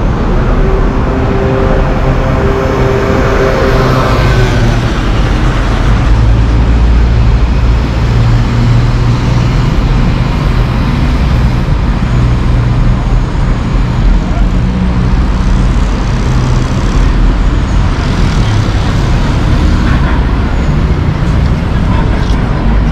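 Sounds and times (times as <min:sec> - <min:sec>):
street traffic: 0:00.0 - 0:22.9.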